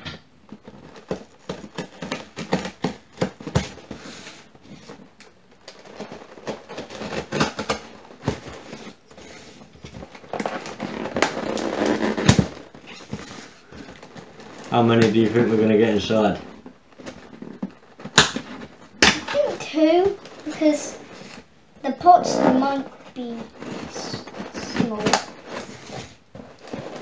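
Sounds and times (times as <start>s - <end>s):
packing tape tearing: 0.5s - 21.5s, 22.2s - 27.0s.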